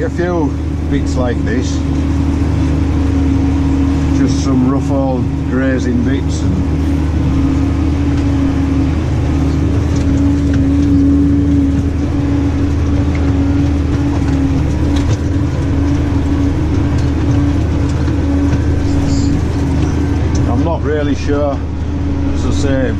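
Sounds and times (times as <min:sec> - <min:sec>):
tractor engine drone: 0:00.0 - 0:22.9.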